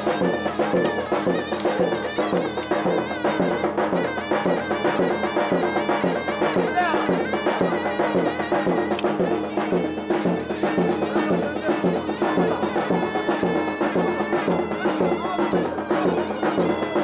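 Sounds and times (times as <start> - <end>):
drum beat: 0.0 - 17.0
reed wind instrument melody: 0.0 - 17.0.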